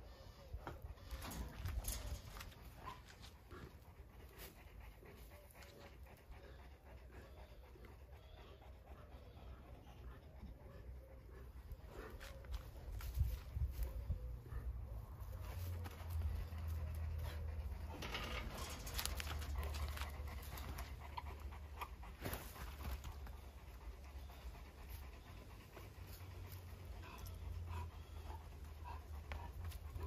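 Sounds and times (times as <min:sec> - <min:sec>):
animal panting: 0:00.0 - 0:30.0.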